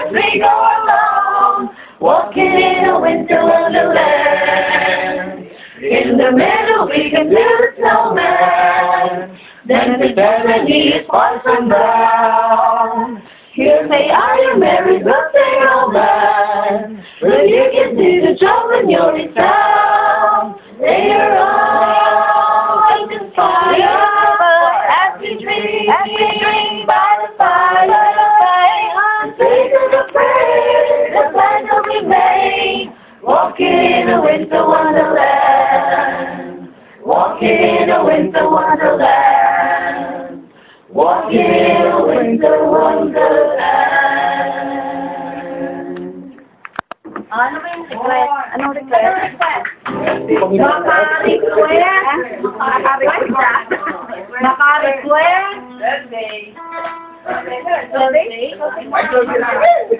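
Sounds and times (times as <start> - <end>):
choir singing a cappella: 0.0 - 46.6, 50.0 - 53.4.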